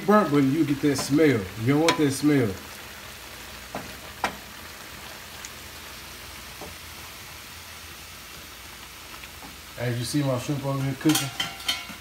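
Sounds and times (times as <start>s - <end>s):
sausage and vegetables sizzling: 0.0s - 12.0s.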